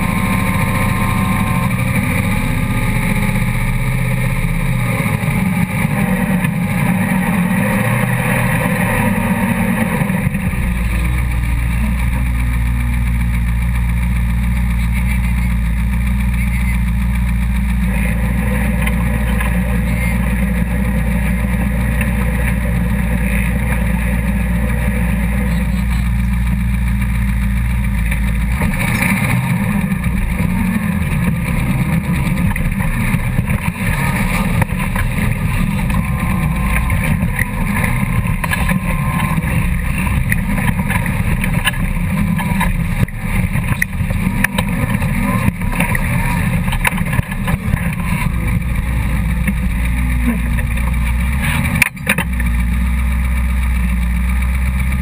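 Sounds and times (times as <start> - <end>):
buggy engine idling and revving: 0.0 - 55.0.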